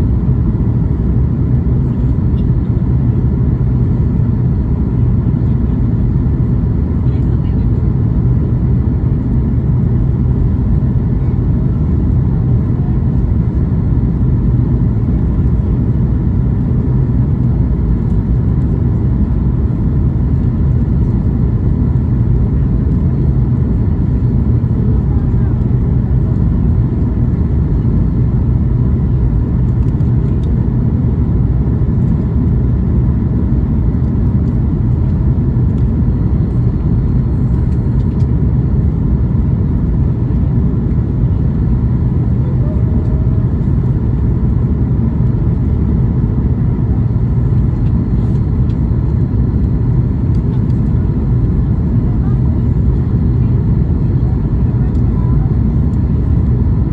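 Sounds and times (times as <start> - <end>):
airliner cabin engine rumble: 0.0 - 56.9.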